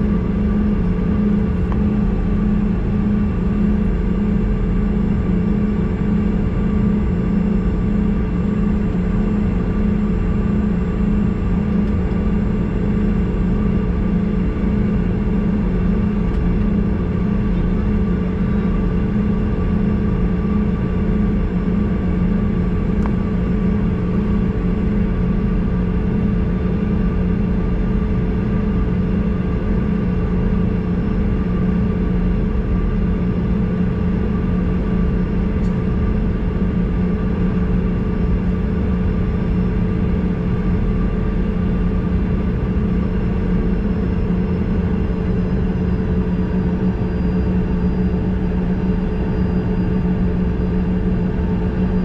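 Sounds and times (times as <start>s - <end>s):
aircraft cabin drone: 0.0s - 52.0s.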